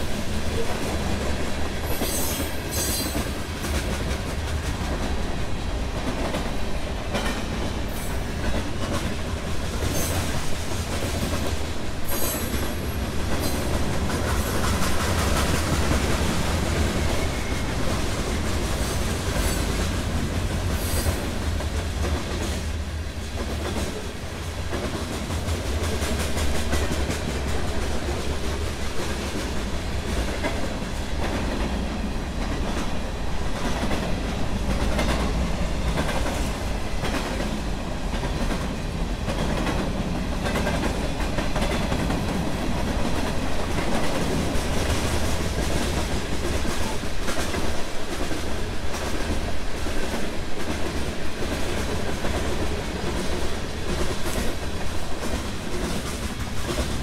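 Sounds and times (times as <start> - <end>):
train rumbling past: 0.0 - 57.0.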